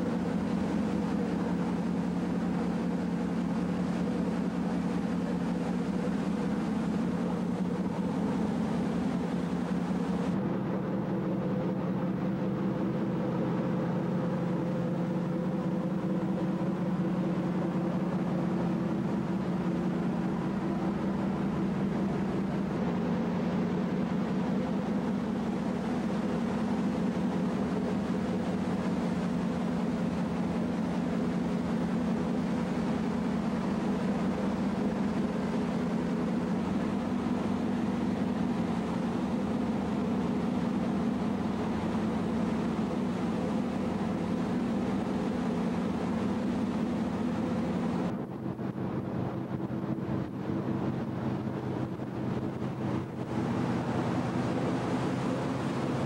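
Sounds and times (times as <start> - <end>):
ferry engines droning: 0.0 - 56.0.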